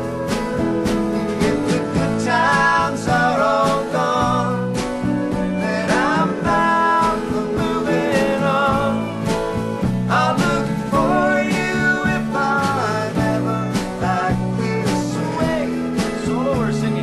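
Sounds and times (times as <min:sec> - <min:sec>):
country acoustic guitar: 0:00.0 - 0:17.0.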